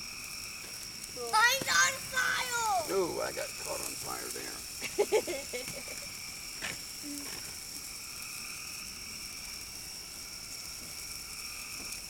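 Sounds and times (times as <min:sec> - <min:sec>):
frogs and insects chorus: 0:00.0 - 0:12.0.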